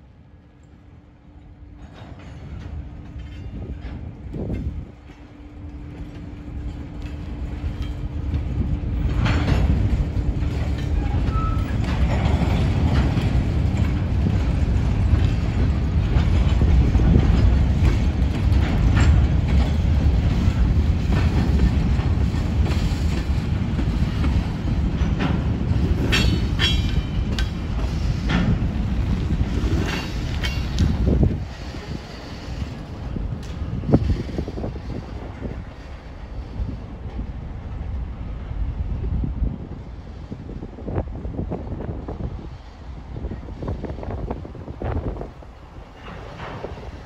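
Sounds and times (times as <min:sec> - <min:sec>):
train wheels clattering over rails: 0:01.6 - 0:37.4, 0:43.5 - 0:47.0
wind buffeting microphone: 0:01.7 - 0:47.0.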